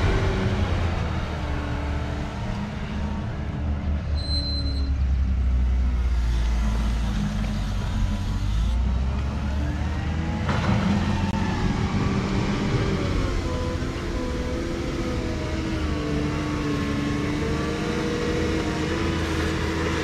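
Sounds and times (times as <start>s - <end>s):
diesel engine working under load: 0.0s - 20.0s.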